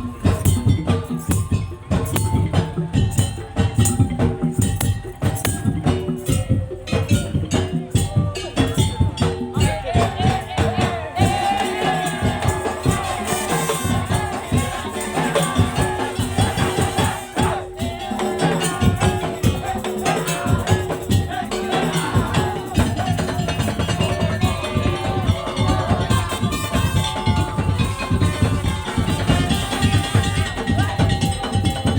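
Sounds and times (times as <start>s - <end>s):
rattling percussion: 0.0s - 31.9s
slit drums and drums: 0.0s - 31.9s.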